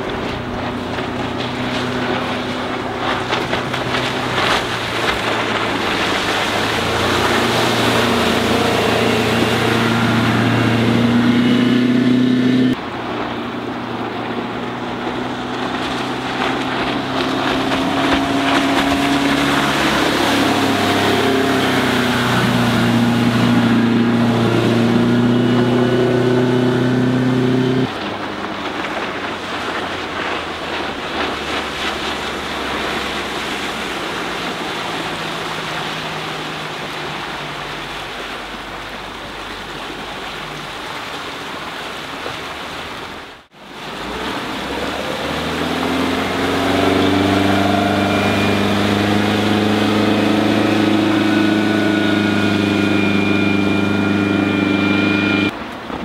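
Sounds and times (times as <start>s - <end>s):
boat engine running: 0.0s - 56.0s
rushing water and wind: 0.0s - 56.0s.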